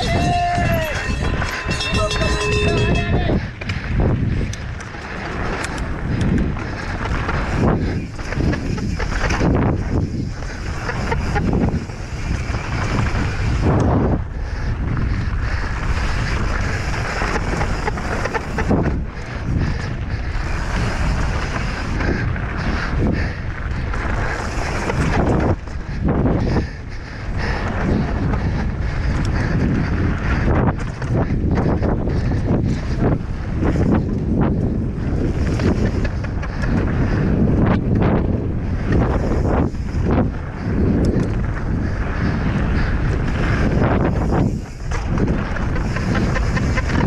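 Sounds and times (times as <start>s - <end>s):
bike knocking and rattling: 0.0s - 47.0s
wind buffeting microphone: 0.0s - 47.0s.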